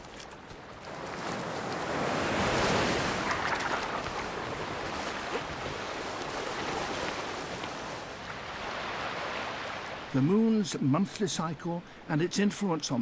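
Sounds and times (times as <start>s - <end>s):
ocean surf on beach: 0.0s - 13.0s.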